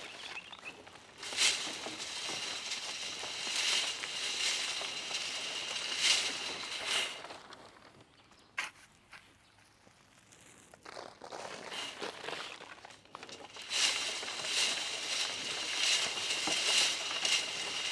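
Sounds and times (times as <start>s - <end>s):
wood chips rustling: 0.0s - 7.8s, 11.4s - 17.9s.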